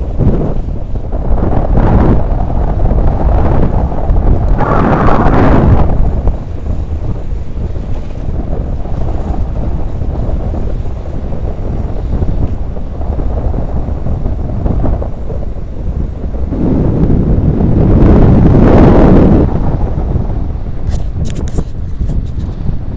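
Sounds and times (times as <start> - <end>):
wind rushing over microphone: 0.0 - 22.9.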